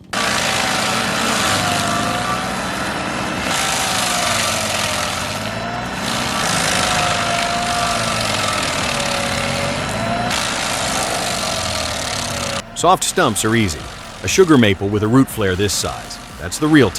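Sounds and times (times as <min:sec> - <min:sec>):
grinding hiss of wood: 0:00.0 - 0:16.9
stump grinder engine: 0:00.0 - 0:16.9.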